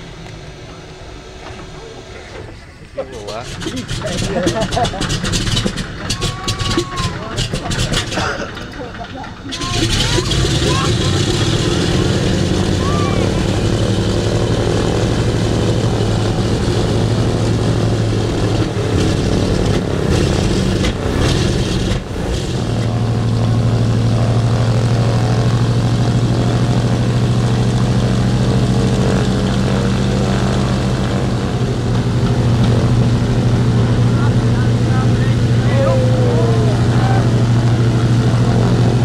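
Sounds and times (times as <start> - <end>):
propeller aircraft engines droning: 0.0 - 39.0.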